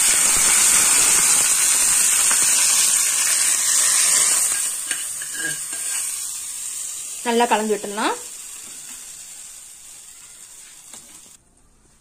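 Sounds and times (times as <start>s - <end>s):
oil and spices sizzling in pan: 0.0s - 11.4s.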